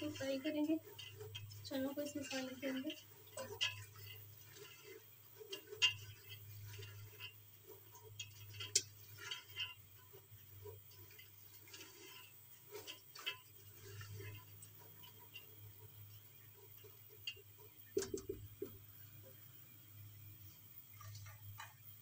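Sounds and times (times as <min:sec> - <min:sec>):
spoon scraping and knocking pot: 0:00.0 - 0:19.5.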